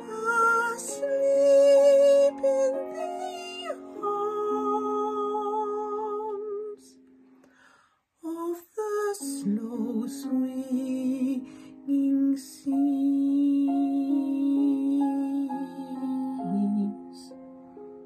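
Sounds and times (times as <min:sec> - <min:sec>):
woman singing soprano: 0:00.0 - 0:07.0, 0:08.2 - 0:17.3.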